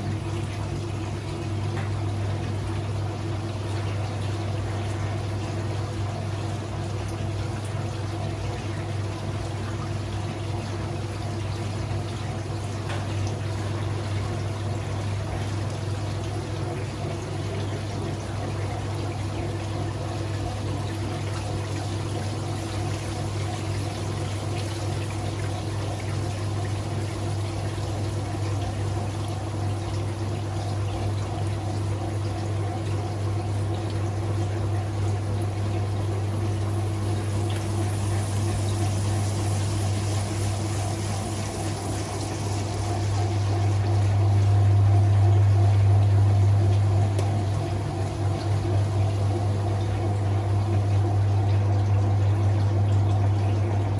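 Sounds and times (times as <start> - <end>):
washing machine pump hum: 0.0 - 53.9
water pouring: 8.2 - 53.9.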